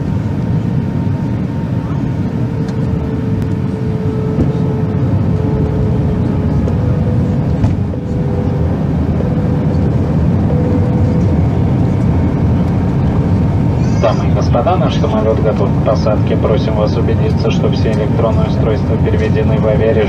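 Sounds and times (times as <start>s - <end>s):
jet cabin engine rumble: 0.0s - 20.0s.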